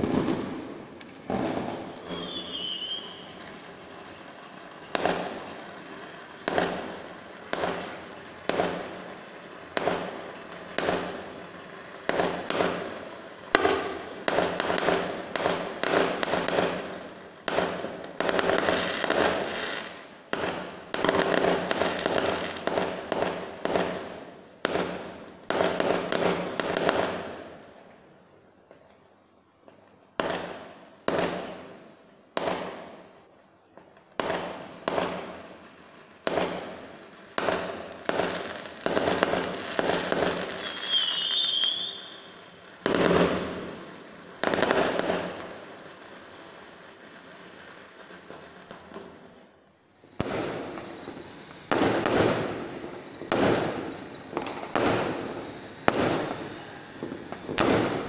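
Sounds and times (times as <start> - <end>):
fireworks bangs: 0.0 - 28.8, 29.6 - 58.0.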